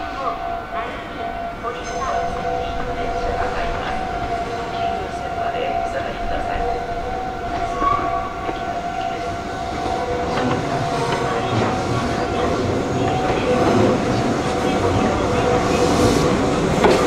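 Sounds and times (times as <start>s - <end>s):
electric train rumbling on rails: 0.0s - 17.0s
steady tones: 0.0s - 17.0s.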